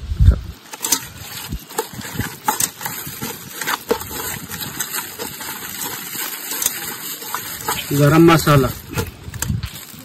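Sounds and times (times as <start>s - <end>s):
hand squelching wet paste: 0.6s - 10.0s.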